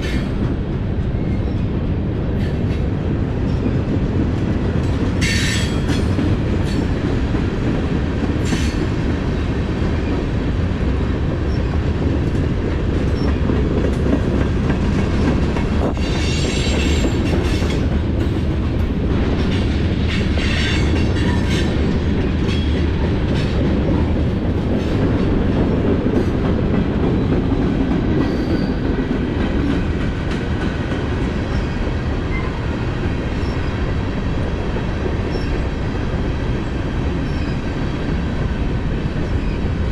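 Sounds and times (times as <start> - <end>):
freight train rumbling on rails: 0.0 - 39.9
train clanks: 0.0 - 39.9.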